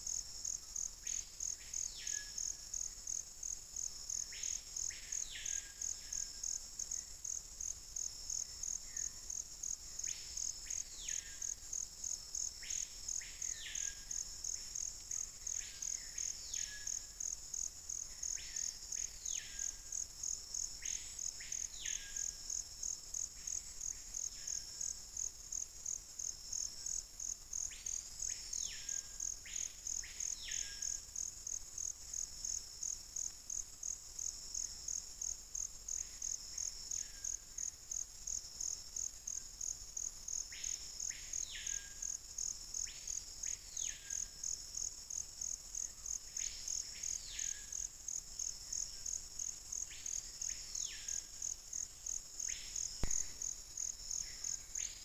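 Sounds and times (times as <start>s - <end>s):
high-pitched insect call: 0.0s - 55.0s.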